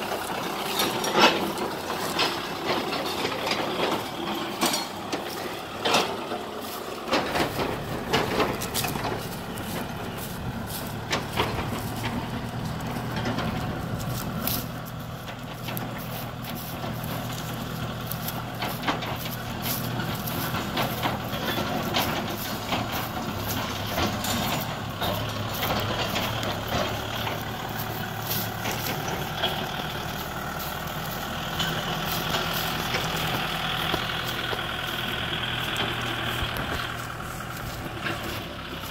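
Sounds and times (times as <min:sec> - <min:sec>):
sharp clanks and knocks: 0:00.0 - 0:38.9
tractor diesel engine running: 0:00.0 - 0:38.9.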